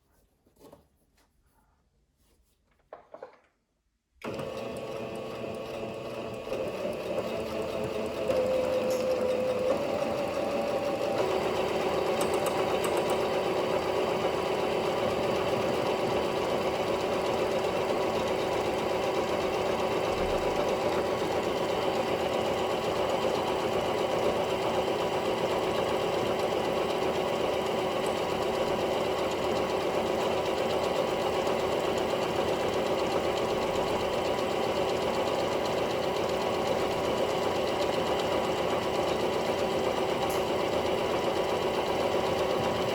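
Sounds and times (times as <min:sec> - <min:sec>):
sewing machine running: 0:04.2 - 0:42.9.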